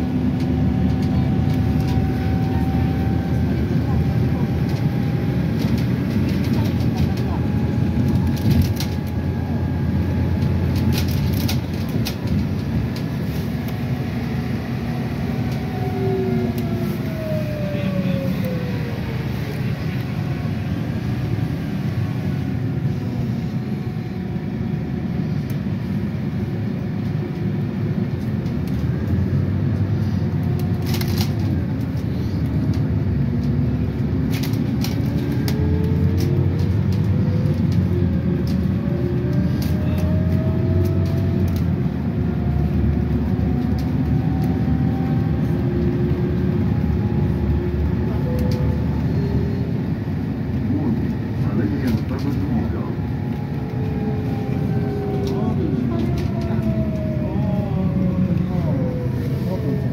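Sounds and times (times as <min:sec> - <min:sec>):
vehicle drive rumble: 0:00.0 - 0:59.9.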